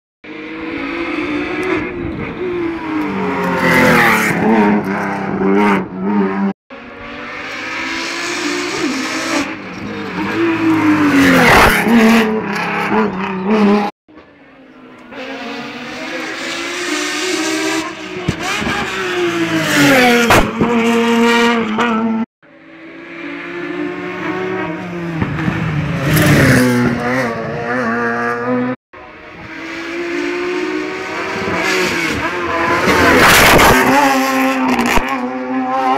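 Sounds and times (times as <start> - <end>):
racing cars passing at full throttle: 0.3 - 35.9.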